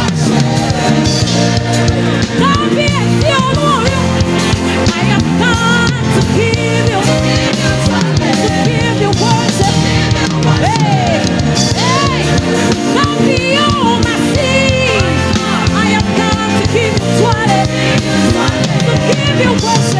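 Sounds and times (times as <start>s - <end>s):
gospel band playing: 0.0s - 19.9s.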